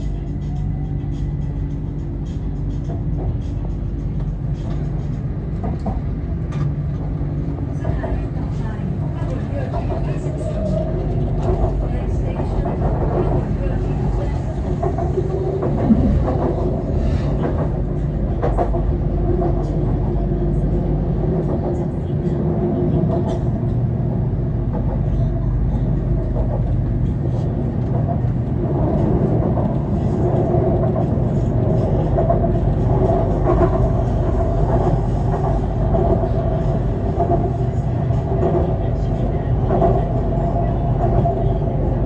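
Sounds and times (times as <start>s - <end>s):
train running: 0.0s - 42.0s.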